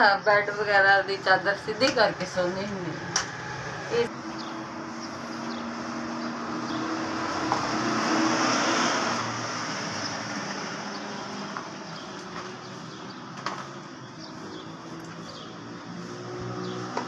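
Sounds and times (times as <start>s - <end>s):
vehicle passing by: 0.5s - 17.0s.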